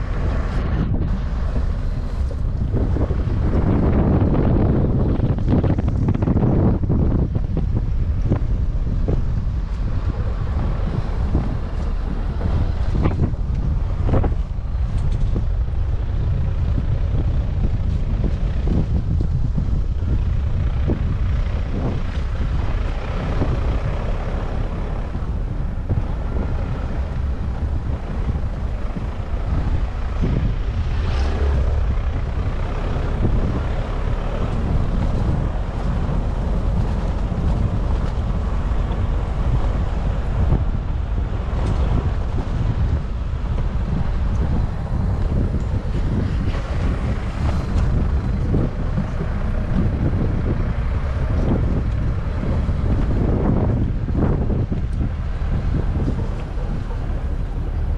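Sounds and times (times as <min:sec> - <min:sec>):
wind buffeting microphone: 0:00.0 - 0:57.9.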